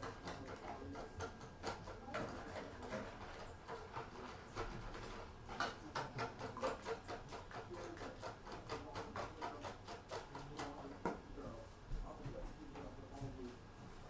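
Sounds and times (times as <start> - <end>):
utensil tapping and scraping bowl: 0.0 - 13.6.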